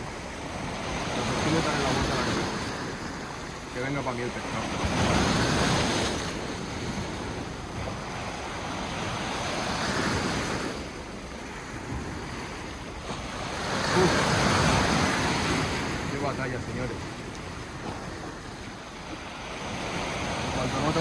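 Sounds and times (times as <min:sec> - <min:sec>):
waves breaking on shore: 0:00.0 - 0:21.0.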